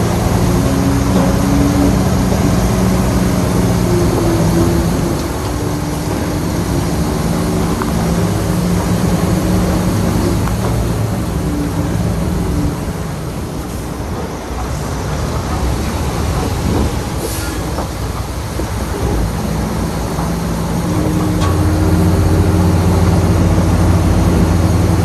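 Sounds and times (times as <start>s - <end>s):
bulldozer diesel engine: 0.0s - 25.0s.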